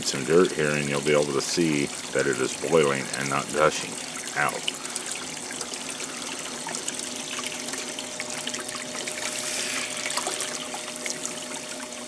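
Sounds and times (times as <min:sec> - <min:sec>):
water bubbling and trickling: 0:00.0 - 0:12.0.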